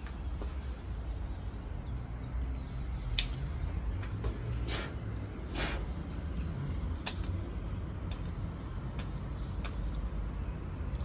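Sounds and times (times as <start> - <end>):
city traffic rumble: 0.0 - 11.0
small birds chirping: 0.0 - 11.0.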